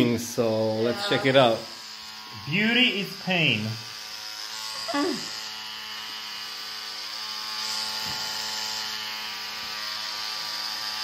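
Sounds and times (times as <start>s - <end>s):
microneedling pen buzzing: 0.0s - 11.0s.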